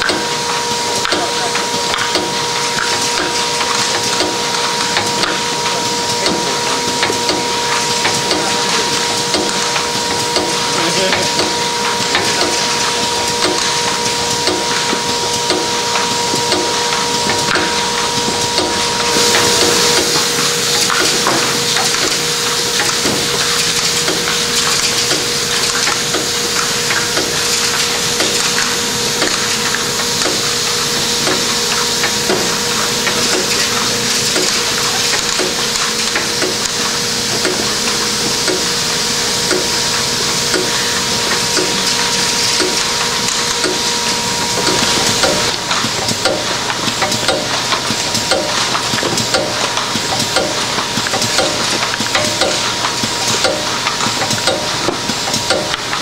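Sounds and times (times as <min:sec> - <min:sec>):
machine clicking cycle: 0:00.0 - 0:56.0
machine hiss and hum: 0:00.0 - 0:56.0.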